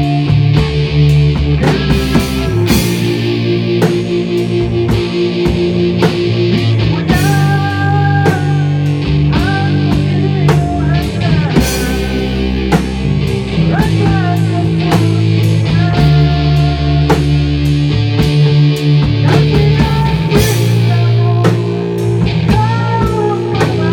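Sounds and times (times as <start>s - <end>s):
live rock band playing: 0.0s - 23.9s
low bass notes: 0.0s - 23.9s
steady drum beat: 0.0s - 23.9s.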